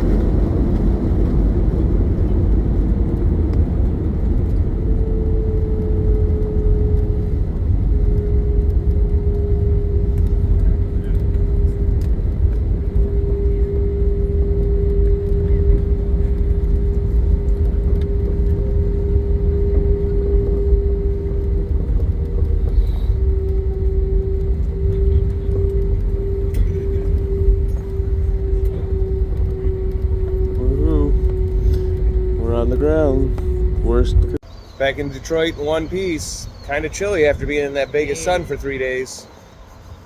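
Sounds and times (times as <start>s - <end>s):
jet cabin droning rumble: 0.0s - 40.0s.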